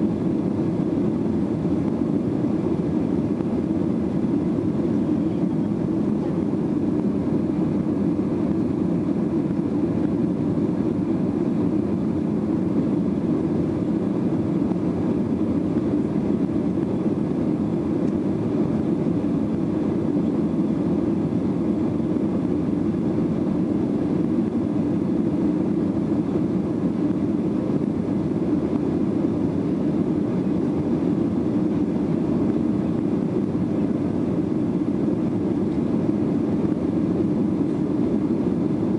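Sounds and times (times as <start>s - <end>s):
aircraft cabin engine rush: 0.0s - 38.9s.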